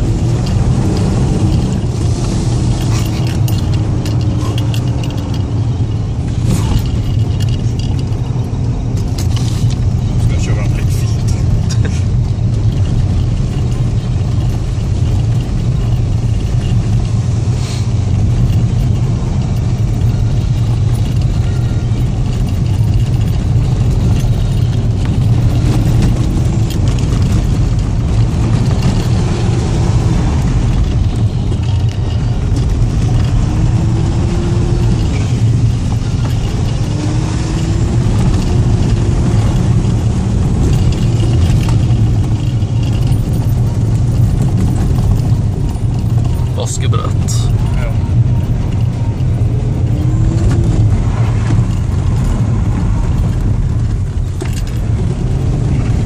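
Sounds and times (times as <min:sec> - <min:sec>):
diesel engine rumbling: 0:00.0 - 0:56.0.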